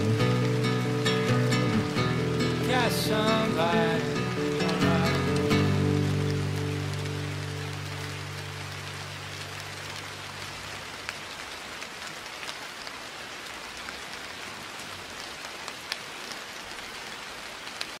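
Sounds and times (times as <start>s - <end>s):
rain hiss heard inside car: 0.0s - 18.0s
raindrops ticking: 0.0s - 18.0s.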